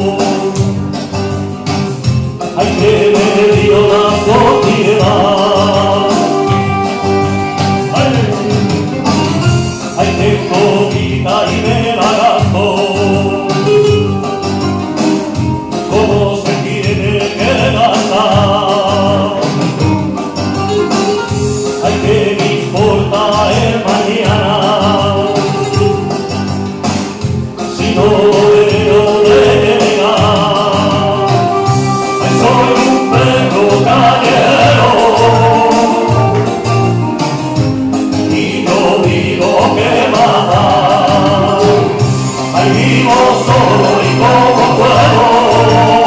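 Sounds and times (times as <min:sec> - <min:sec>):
man singing into microphone: 0:00.0 - 0:01.0, 0:02.4 - 0:14.2, 0:15.7 - 0:20.0, 0:21.3 - 0:26.2, 0:27.6 - 0:37.0, 0:38.1 - 0:46.0
rumba backing track: 0:00.0 - 0:46.0.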